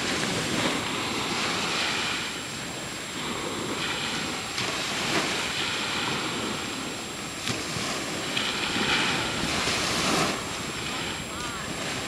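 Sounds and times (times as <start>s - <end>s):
ocean waves splashing: 0.0s - 12.0s
wind blowing on microphone: 0.0s - 12.0s.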